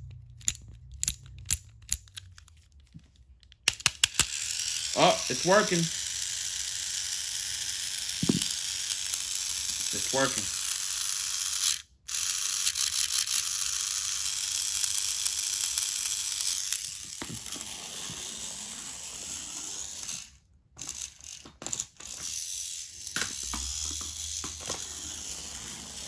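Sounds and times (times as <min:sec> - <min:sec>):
toy train motor whirring: 0:00.0 - 0:02.6, 0:03.6 - 0:26.0.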